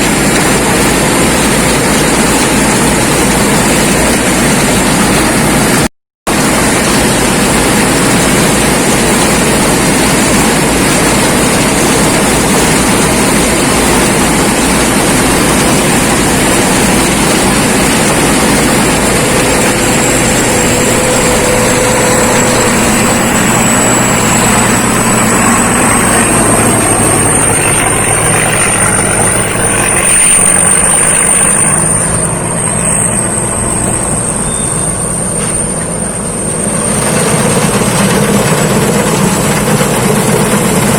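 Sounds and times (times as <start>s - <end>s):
combine harvester running: 0.0s - 40.9s
thin high whine: 0.0s - 40.9s.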